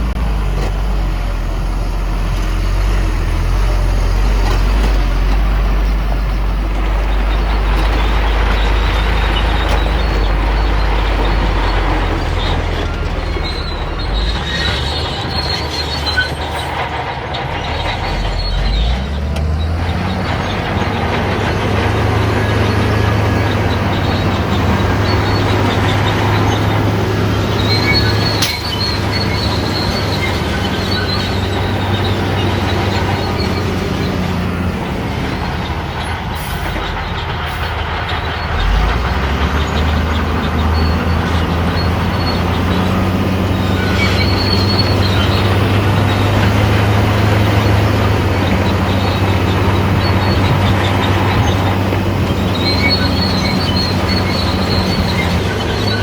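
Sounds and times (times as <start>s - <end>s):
bulldozer diesel engine running: 0.0s - 56.0s
steel tracks squealing: 0.0s - 56.0s.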